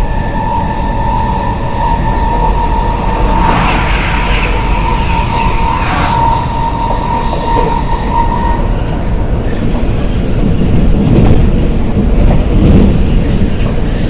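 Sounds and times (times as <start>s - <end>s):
train traction drive whining: 0.0s - 13.9s
train wheels rumbling on rails: 0.0s - 14.0s.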